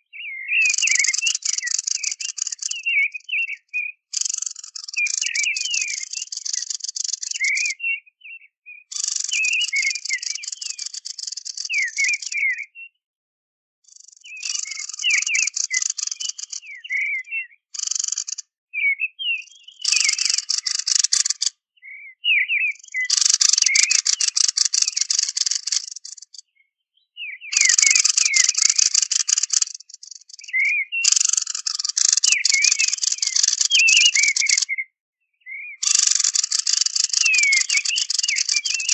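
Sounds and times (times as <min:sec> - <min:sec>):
buzzy rattling bird trill: 0:00.1 - 0:07.9, 0:08.8 - 0:12.6, 0:13.9 - 0:18.5, 0:19.4 - 0:21.6, 0:22.8 - 0:26.6, 0:27.5 - 0:34.8, 0:35.8 - 0:38.9.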